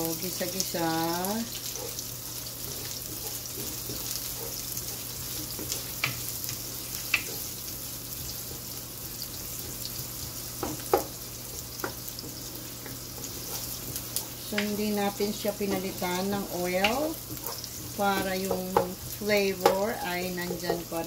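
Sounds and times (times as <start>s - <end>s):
garlic and onion sizzling in oil: 0.0s - 21.0s.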